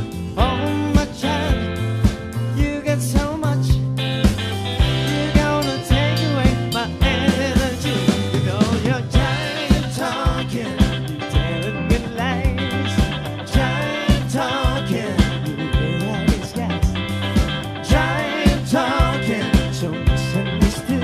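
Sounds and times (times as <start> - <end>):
sliding lead melody with vibrato: 0.0 - 21.0
steady drum beat: 0.0 - 21.0
stepping bass line: 0.0 - 21.0.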